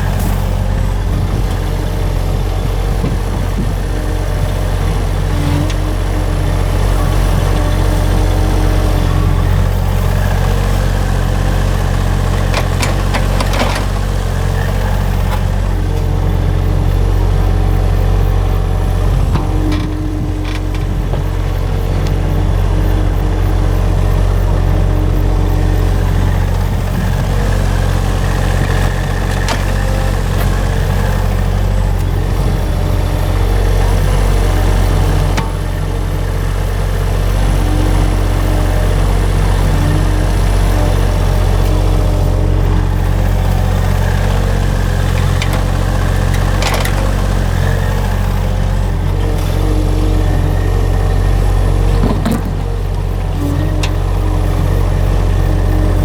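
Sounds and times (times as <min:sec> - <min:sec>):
small engine running steadily: 0:00.0 - 0:56.0.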